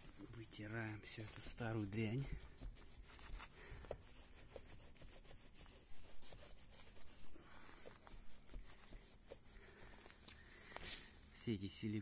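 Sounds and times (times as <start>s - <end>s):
rag rubbing and scuffing: 1.1s - 11.2s.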